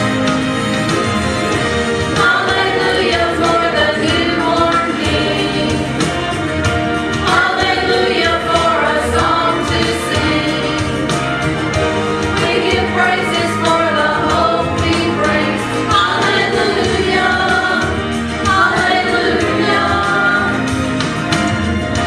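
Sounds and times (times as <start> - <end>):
instrumental accompaniment: 0.0 - 22.0
choir singing: 1.6 - 6.4, 7.2 - 11.4, 12.2 - 21.0.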